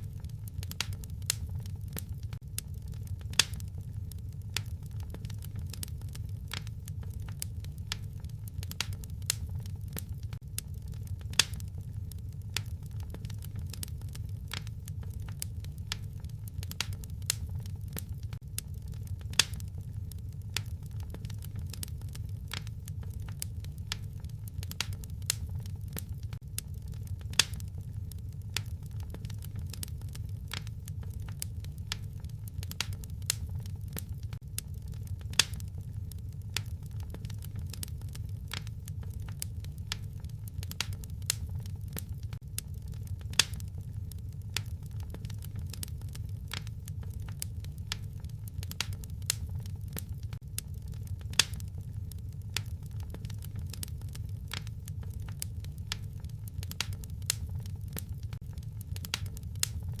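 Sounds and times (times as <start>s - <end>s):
wood fire crackling: 0.0s - 60.0s.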